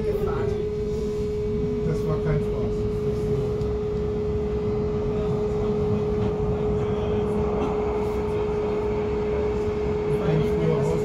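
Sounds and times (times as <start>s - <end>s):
high electrical hum: 0.0s - 11.0s
train rolling rumble: 0.0s - 11.0s.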